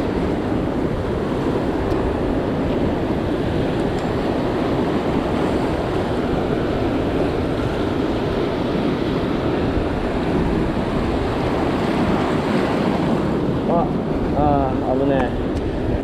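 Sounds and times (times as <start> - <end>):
rough surf: 0.0 - 16.0
wind buffeting microphone: 0.0 - 16.0.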